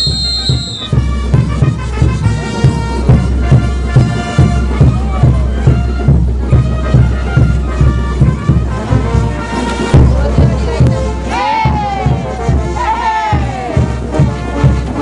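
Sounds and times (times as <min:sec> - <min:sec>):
bass drum beat: 0:00.0 - 0:15.0
brass band playing: 0:00.0 - 0:15.0.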